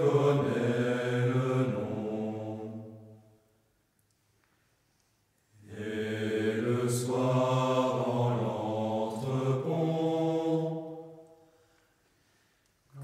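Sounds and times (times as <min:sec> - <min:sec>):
choir singing low voices: 0:00.0 - 0:03.7, 0:05.5 - 0:13.0.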